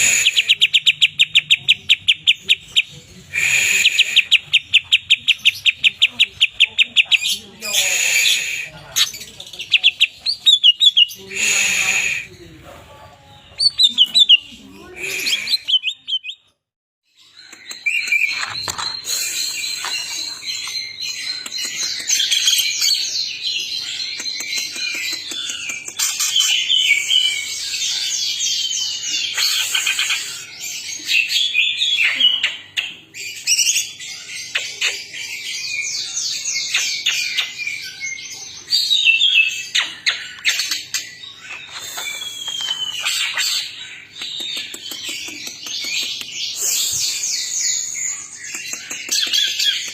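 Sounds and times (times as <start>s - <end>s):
bird chattering song: 0.0s - 12.5s, 13.4s - 16.6s, 17.3s - 49.9s.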